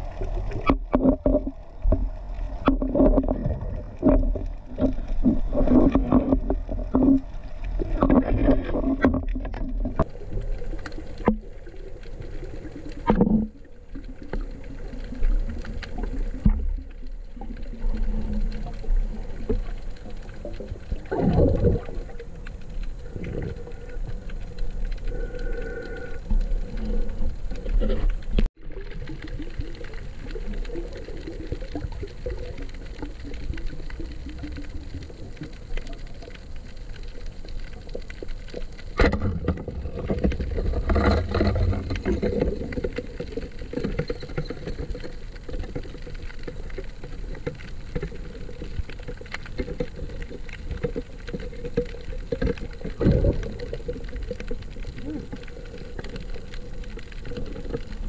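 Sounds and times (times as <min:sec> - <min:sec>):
underwater rush of water: 0:00.0 - 0:58.0.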